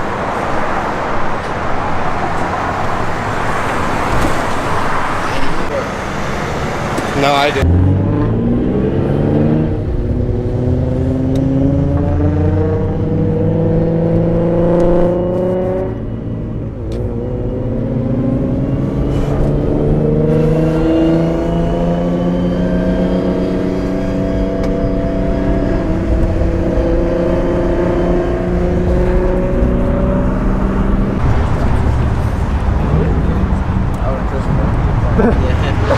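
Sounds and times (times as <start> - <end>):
car engine accelerating hard: 3.7 - 35.9.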